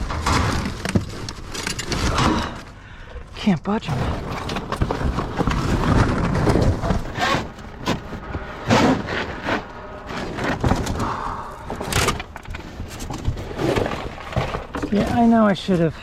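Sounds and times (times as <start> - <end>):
scrap scraping in dumpster: 0.0 - 2.8, 3.8 - 15.5.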